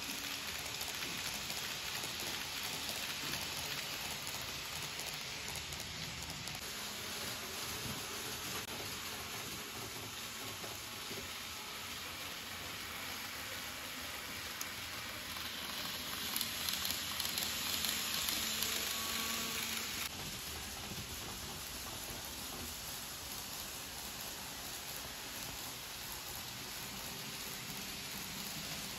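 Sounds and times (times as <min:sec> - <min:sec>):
model train wheels and motor hiss: 0:00.0 - 0:28.9.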